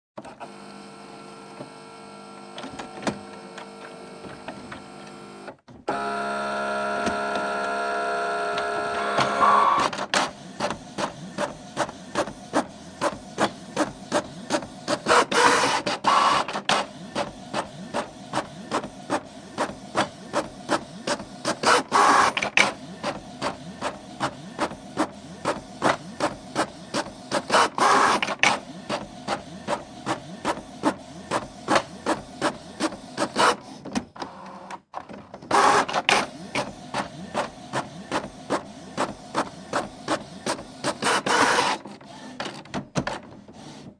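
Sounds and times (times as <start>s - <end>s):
printer motor whine: 0.2s - 34.8s, 35.5s - 43.9s
paper feed whirring: 0.2s - 43.9s.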